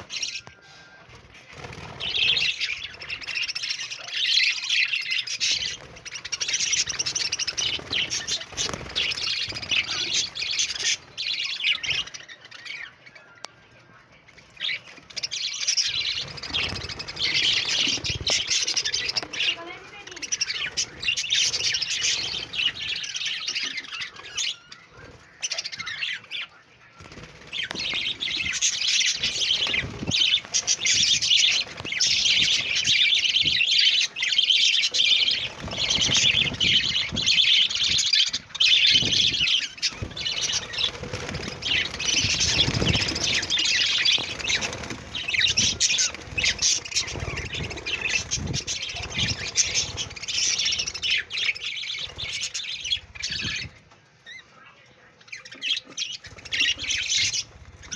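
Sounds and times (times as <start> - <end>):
budgerigars chirping and warbling: 0.0 - 57.9.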